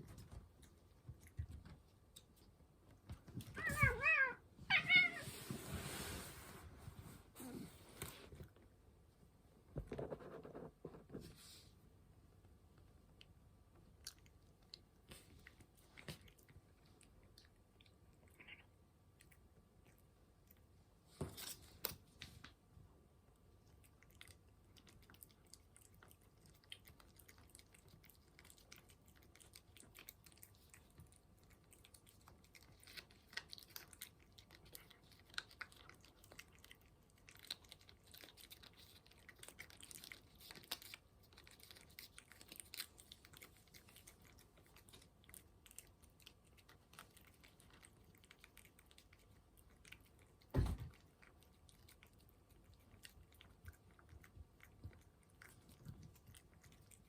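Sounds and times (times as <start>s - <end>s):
cat chewing food: 0.0s - 4.0s, 6.9s - 57.0s.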